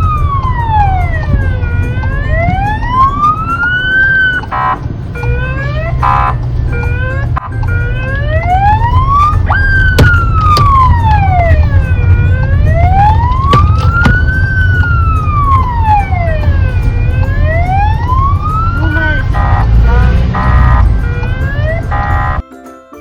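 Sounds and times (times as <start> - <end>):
low rumble: 0.0 - 22.4
wailing siren: 0.0 - 22.4.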